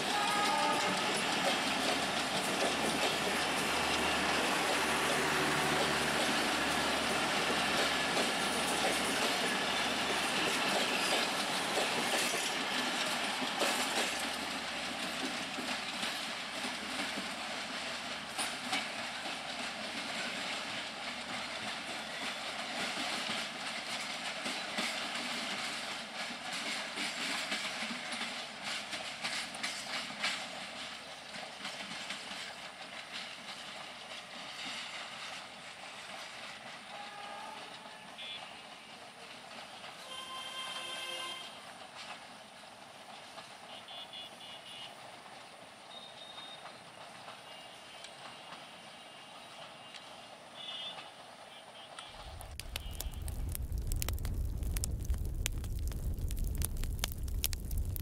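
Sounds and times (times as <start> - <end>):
train coaches rolling on rails: 0.0 - 58.0
wheels clicking over rail joints: 0.0 - 58.0.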